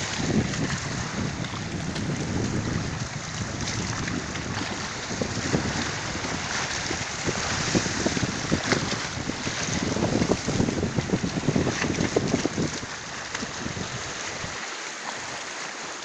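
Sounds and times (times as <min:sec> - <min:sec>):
wind buffeting microphone: 0:00.0 - 0:14.6
sea waves washing ashore: 0:00.0 - 0:16.0.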